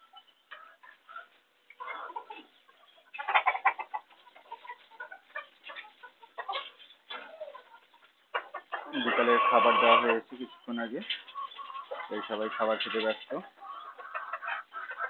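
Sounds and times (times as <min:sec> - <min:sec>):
chickens clucking softly: 0:00.0 - 0:15.0.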